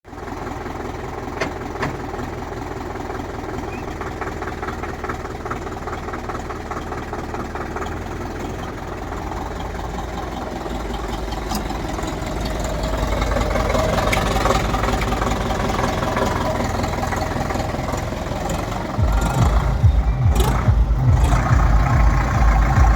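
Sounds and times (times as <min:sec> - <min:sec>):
tractor diesel engine idling: 0:00.0 - 0:22.9.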